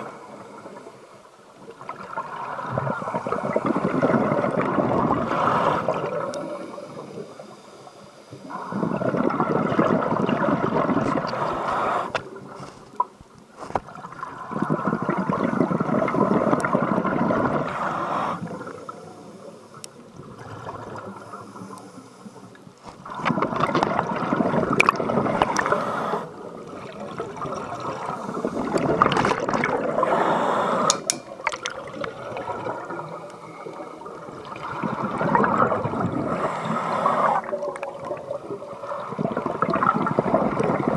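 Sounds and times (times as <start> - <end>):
underwater exhaled air bubbling: 0.0 - 40.9.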